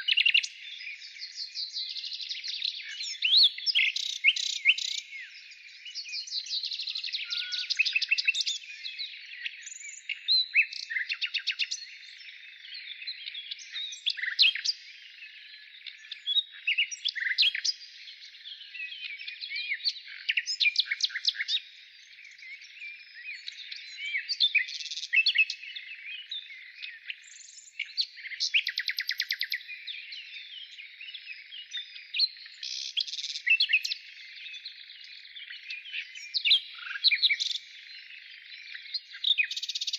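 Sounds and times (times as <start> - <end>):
wild birds chirping and whistling: 0.0 - 39.9.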